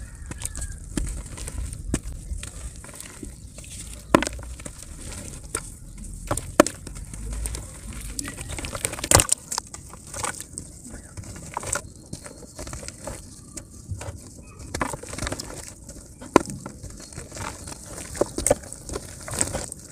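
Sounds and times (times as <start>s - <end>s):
dry mud crumbling in hands: 0.0s - 19.9s.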